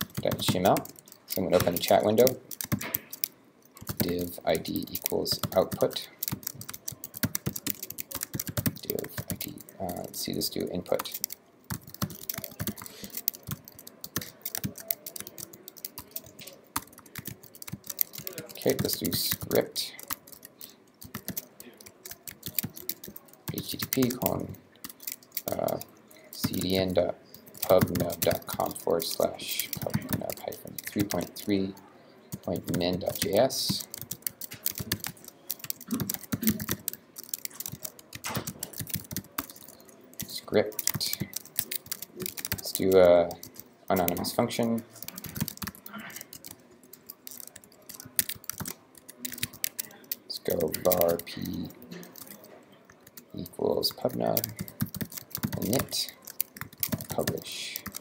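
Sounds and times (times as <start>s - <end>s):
keyboard typing clicks: 0.0s - 31.6s, 32.3s - 58.0s.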